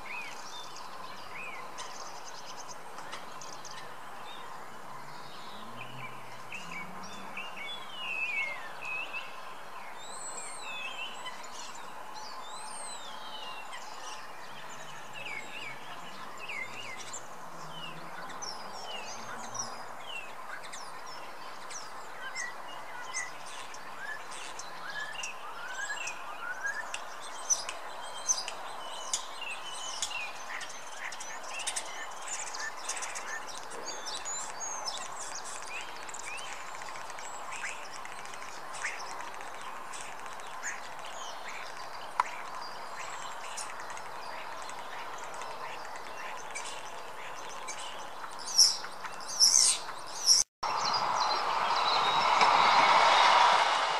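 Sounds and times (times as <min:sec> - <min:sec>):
songbirds chirping and singing: 0:00.0 - 0:52.3.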